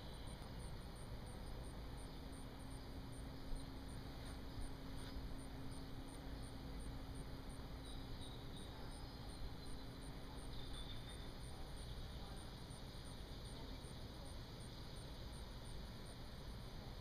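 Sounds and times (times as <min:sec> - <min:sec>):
faint high insect chirp: 0:00.0 - 0:17.0
low steady rumble: 0:00.0 - 0:17.0.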